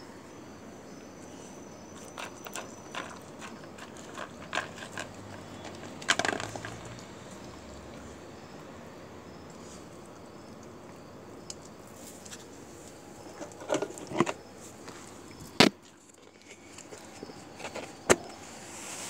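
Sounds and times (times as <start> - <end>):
steady background hiss: 0.0 - 3.8, 6.8 - 19.0.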